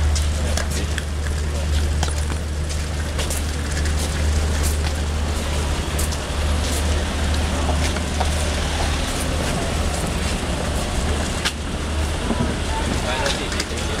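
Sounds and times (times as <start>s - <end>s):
large vehicle engine rumbling: 0.0s - 14.0s
traffic noise: 0.0s - 14.0s.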